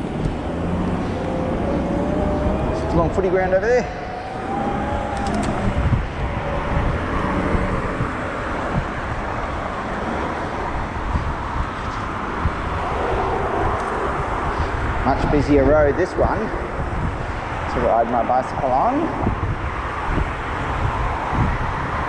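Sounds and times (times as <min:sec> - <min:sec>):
road and traffic noise: 0:00.0 - 0:22.0
wind rushing over microphone: 0:00.0 - 0:22.0.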